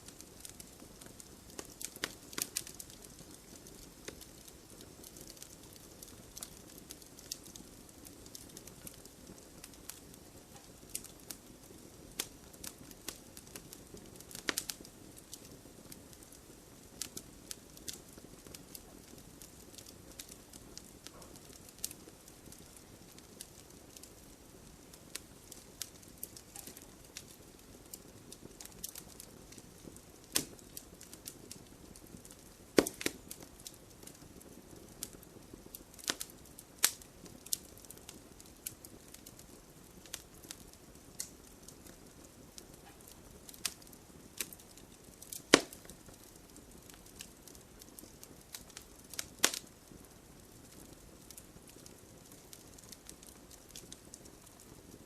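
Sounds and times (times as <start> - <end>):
soft hiss of burning: 0.0 - 55.0
wood fire crackling and popping: 0.0 - 55.0.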